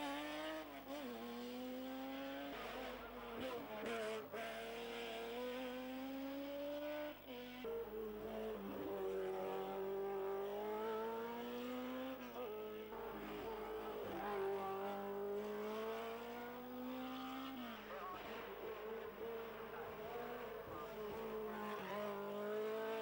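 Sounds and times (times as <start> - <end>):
racing car engine at high revs: 0.0 - 23.0.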